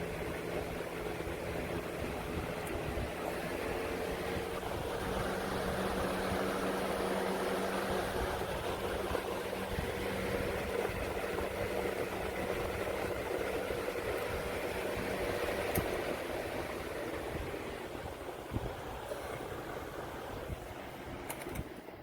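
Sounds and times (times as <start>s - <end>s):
box fan air rush: 0.0s - 22.0s
fan motor hum: 0.0s - 22.0s.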